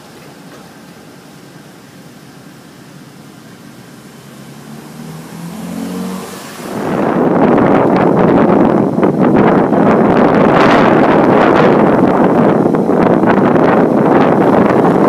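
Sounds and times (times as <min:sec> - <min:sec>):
rain: 0:00.0 - 0:15.0
wind: 0:00.0 - 0:15.0
wind buffeting microphone: 0:00.0 - 0:15.0.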